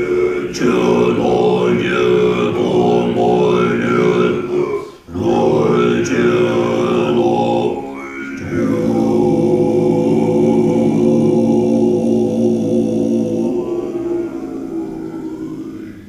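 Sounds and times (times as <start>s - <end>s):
monks chanting in deep voices: 0.0s - 16.0s.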